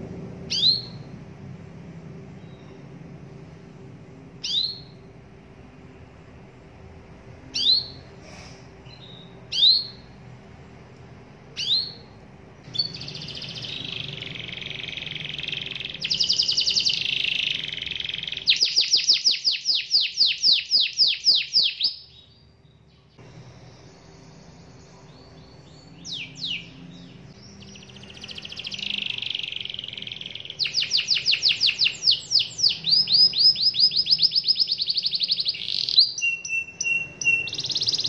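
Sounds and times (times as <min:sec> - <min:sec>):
canary singing: 0:00.4 - 0:01.2, 0:02.3 - 0:03.1, 0:04.4 - 0:05.2, 0:06.9 - 0:08.2, 0:08.8 - 0:10.4, 0:11.4 - 0:38.0.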